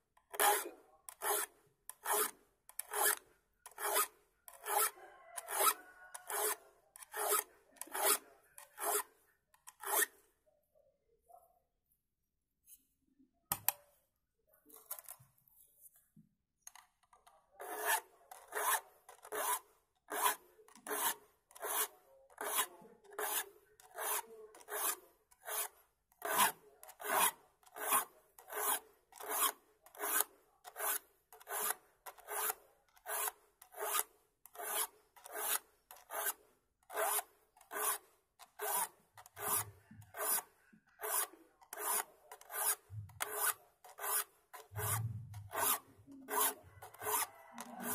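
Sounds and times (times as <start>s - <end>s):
file rasping on saw teeth: 0.3s - 10.2s, 17.6s - 47.9s.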